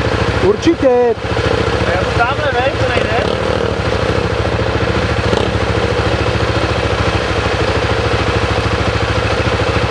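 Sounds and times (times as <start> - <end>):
dirt bike engine running: 0.0 - 9.9.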